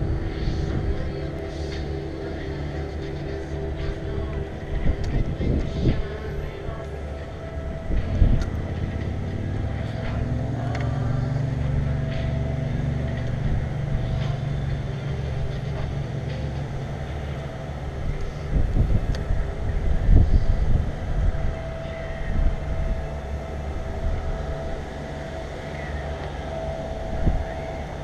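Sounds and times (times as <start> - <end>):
passing vehicle engine rumble: 0.0 - 28.0
wind buffeting microphone: 3.3 - 25.3, 26.3 - 28.0.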